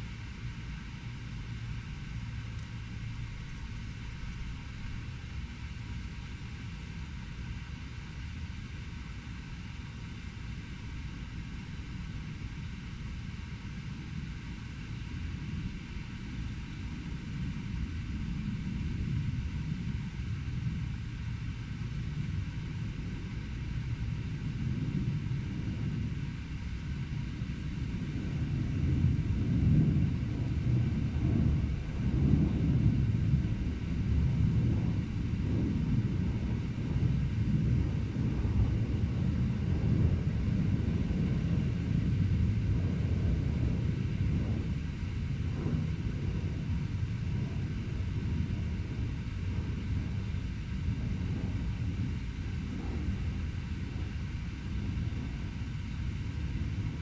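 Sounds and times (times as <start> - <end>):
urban traffic rumble: 0.0 - 57.0.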